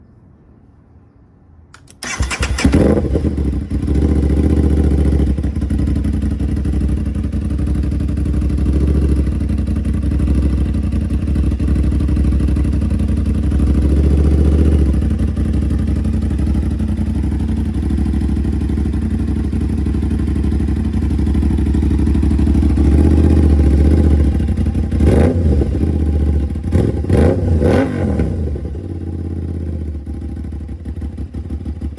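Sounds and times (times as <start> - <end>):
motorcycle engine idling: 1.8 - 27.3, 28.6 - 31.9
motorcycle throttle blips: 1.8 - 29.0.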